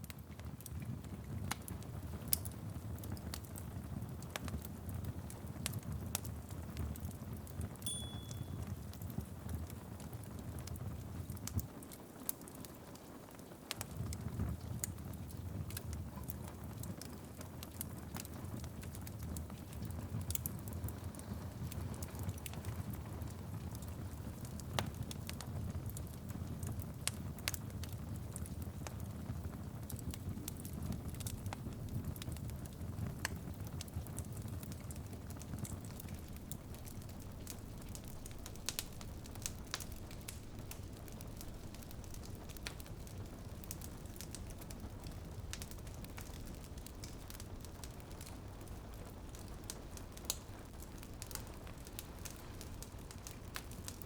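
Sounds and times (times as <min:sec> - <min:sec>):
faint hiss of rain: 0:00.0 - 0:54.0
wood fire crackling: 0:00.0 - 0:54.0.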